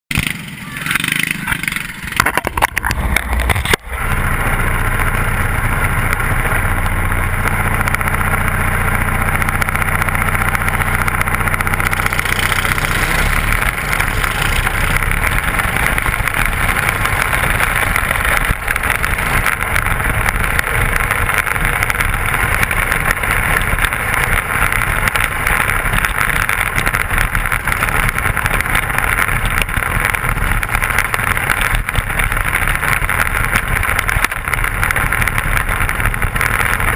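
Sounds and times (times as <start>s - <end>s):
race car engine running: 0.1s - 36.9s.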